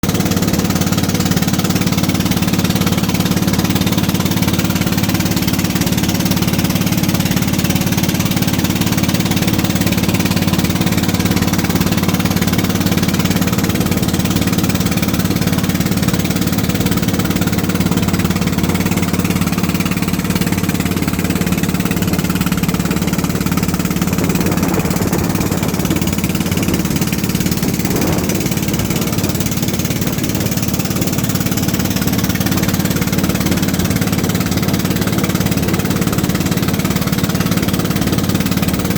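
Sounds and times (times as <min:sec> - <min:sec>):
boat engine low drone: 0:00.0 - 0:38.9.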